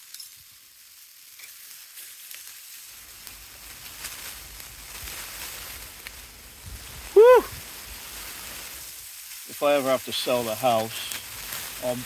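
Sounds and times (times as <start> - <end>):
fire crackles: 0.0 - 12.0
sausages sizzling on grill: 0.0 - 12.0.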